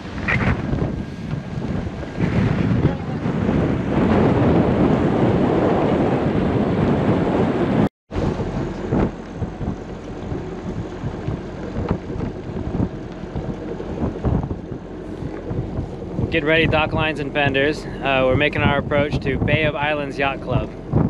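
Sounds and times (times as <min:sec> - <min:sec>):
water noise: 0:00.0 - 0:21.0
wind rushing over microphone: 0:00.0 - 0:21.0.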